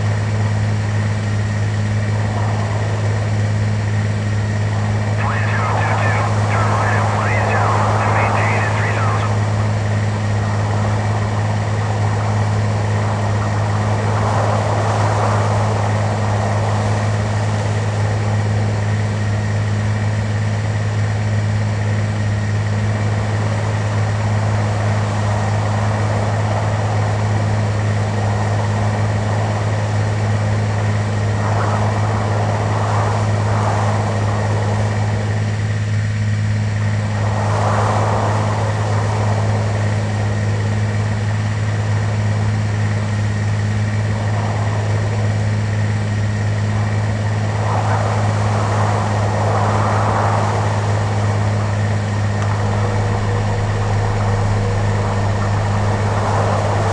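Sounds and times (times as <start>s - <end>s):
airplane engines droning in cabin: 0.0s - 56.9s.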